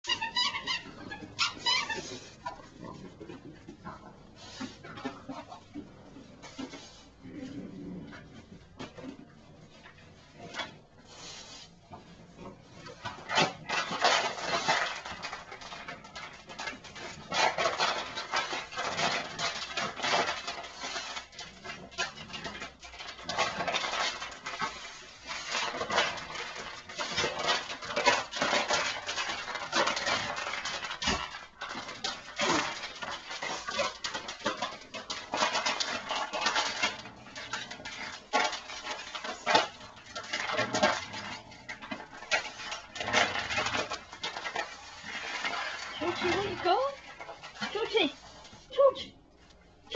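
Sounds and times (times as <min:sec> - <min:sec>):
dog chewing a plush toy: 0:00.0 - 0:48.6
toy rustling: 0:00.0 - 0:49.9.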